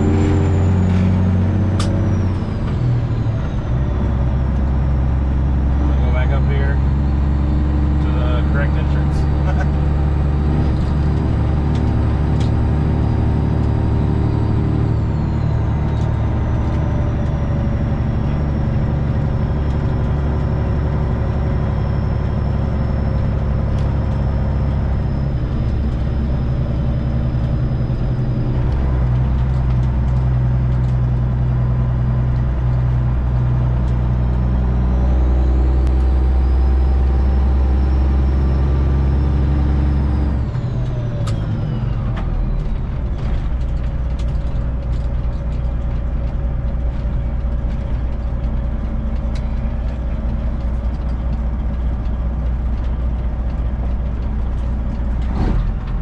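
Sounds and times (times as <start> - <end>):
high engine whine: 0.0 - 56.0
truck diesel engine drone: 0.0 - 56.0.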